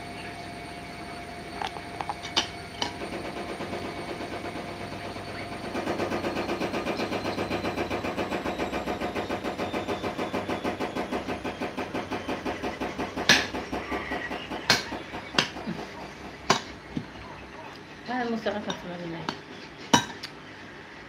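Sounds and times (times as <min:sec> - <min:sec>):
small engine pulsing: 0:00.0 - 0:19.8.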